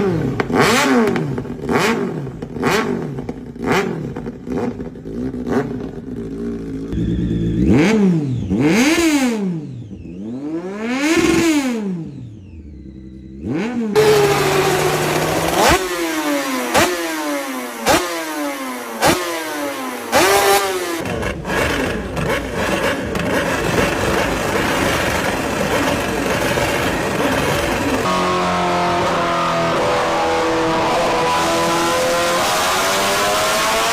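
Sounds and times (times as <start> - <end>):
motorcycle engines revving hard: 0.0 - 33.9.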